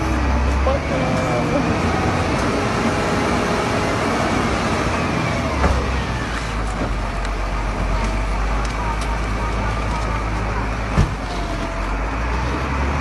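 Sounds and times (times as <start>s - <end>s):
loader engine low rumble: 0.0s - 13.0s.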